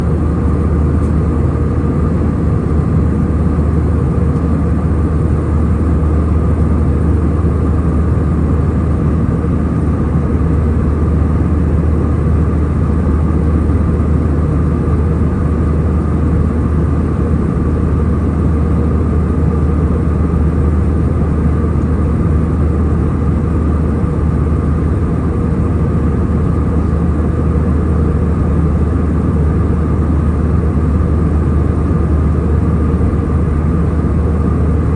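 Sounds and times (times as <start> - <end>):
airliner cabin drone: 0.0 - 34.9.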